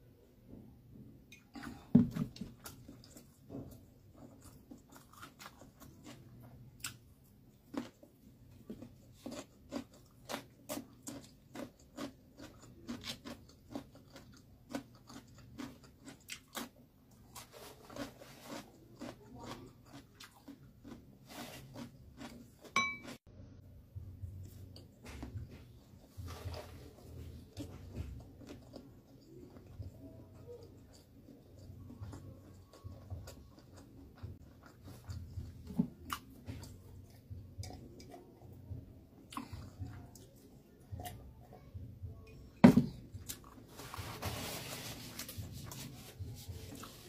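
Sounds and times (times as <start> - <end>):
close chewing with mouth clicks: 1.4 - 23.2, 24.4 - 41.3.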